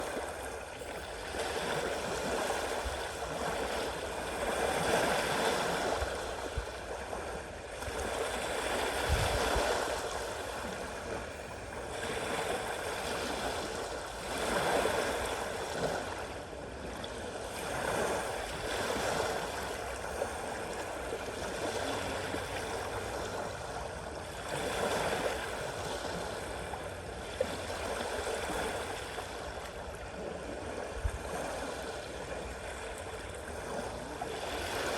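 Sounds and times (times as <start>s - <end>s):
sea waves washing in and out: 0.0s - 34.9s.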